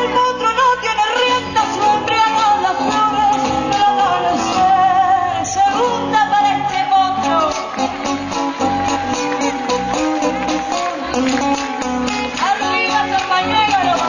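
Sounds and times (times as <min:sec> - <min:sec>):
folk music with singing: 0:00.0 - 0:14.0.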